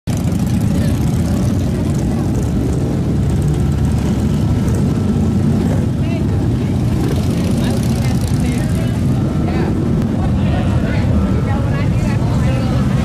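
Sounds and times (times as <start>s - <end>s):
motorcycle engine rumbling: 0.1s - 13.0s.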